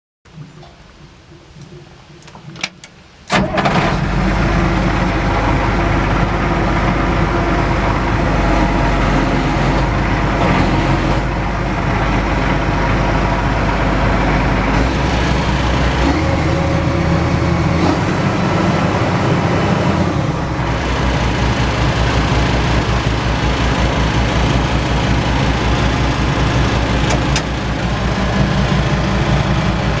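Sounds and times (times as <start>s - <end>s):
diesel engine starting and running: 0.3s - 30.0s.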